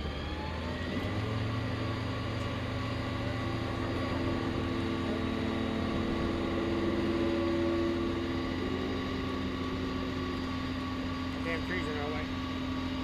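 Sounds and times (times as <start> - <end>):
vehicle engine droning hum: 0.0 - 13.0.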